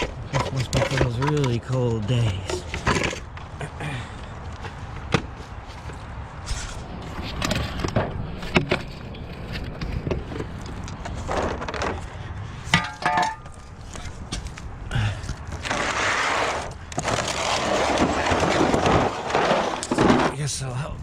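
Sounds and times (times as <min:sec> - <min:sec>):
knocks bumps and scraping: 0:00.0 - 0:20.5.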